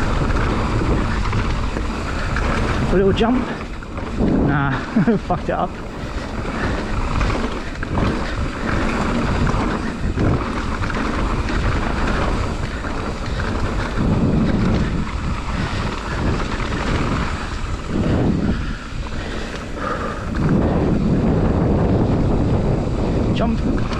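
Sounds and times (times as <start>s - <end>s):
bike rattling and knocking: 0.0s - 23.9s
wind buffeting microphone: 0.0s - 23.9s.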